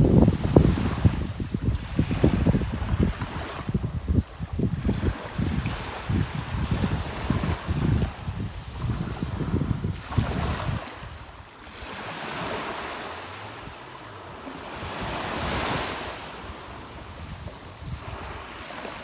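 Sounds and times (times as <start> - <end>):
sea waves on a beach: 0.0 - 19.0
wind buffeting microphone: 0.0 - 19.0.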